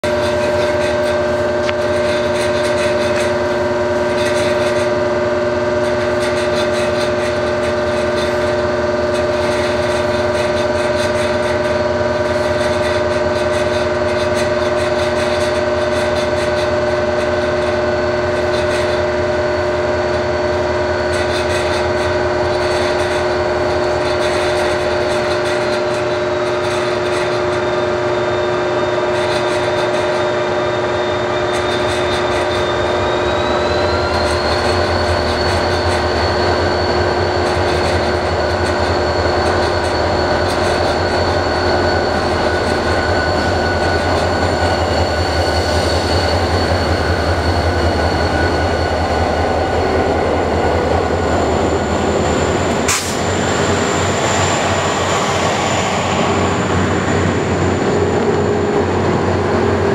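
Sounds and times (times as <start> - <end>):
standing train hum and whine: 0.0 - 59.9.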